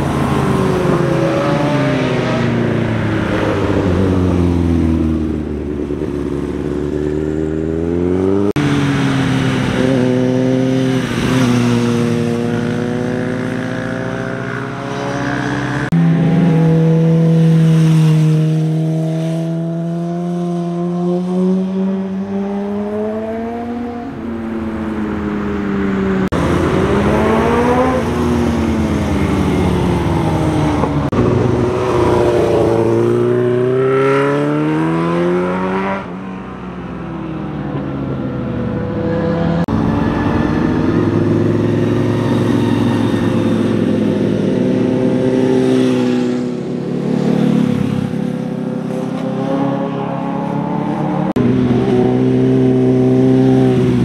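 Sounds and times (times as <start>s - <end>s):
motorcycle engines revving past: 0.0s - 54.0s.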